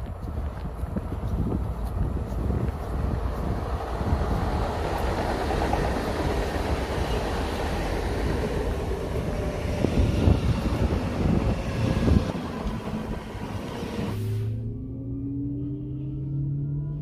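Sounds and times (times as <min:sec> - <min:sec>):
wind thumps on microphone: 0:00.0 - 0:14.2
train pulling into station: 0:00.0 - 0:15.0.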